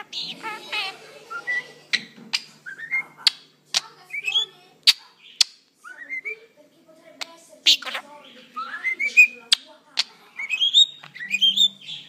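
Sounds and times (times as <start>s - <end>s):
budgerigar chattering: 0.0s - 6.5s, 7.2s - 12.0s.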